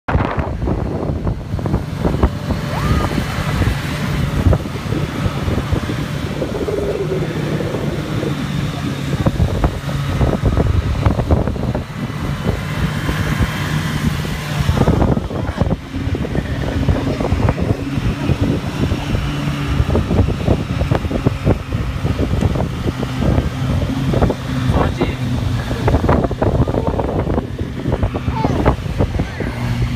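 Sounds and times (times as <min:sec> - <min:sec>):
snowmobile engine running: 0:00.2 - 0:29.9.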